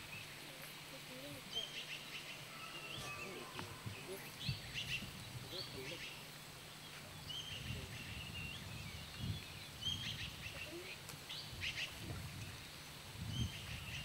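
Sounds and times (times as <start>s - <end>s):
birds chirping and whistling: 1.5s - 14.0s.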